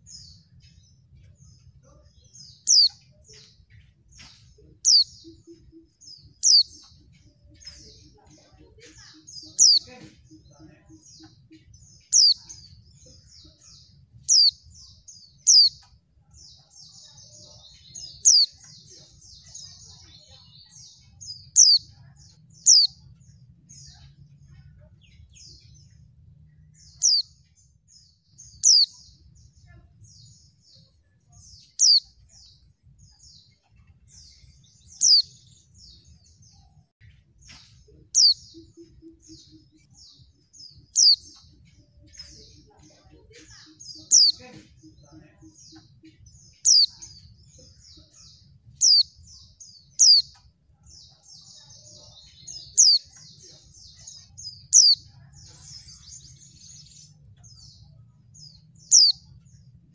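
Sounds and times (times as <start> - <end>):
soft bird twittering: 0.0 - 59.9.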